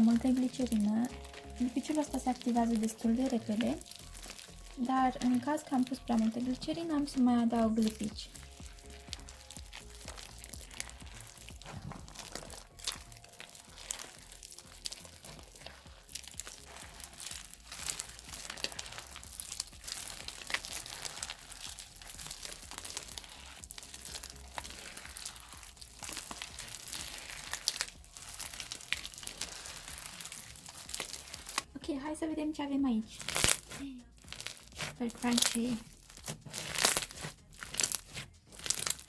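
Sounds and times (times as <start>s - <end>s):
slime beads crackling: 0.0s - 31.8s, 32.9s - 39.0s.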